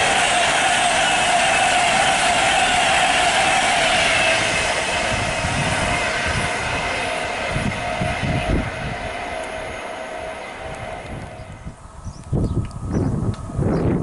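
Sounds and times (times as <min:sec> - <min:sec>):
express train passing: 0:00.0 - 0:14.0
whine: 0:00.0 - 0:14.0.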